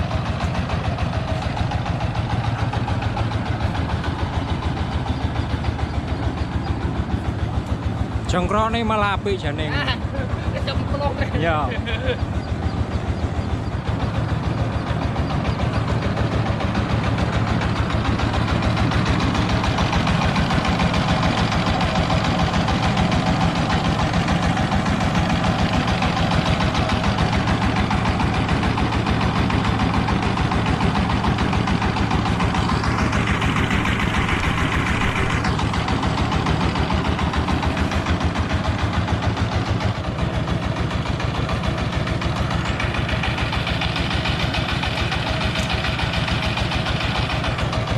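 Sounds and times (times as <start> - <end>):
diesel engine thumping: 0.0 - 47.9.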